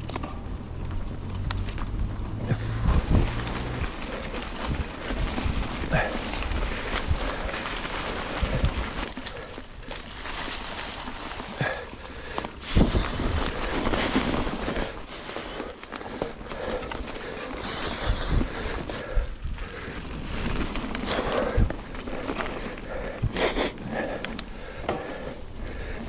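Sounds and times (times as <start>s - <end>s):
bike tyres rustling over leaves: 0.0s - 26.0s.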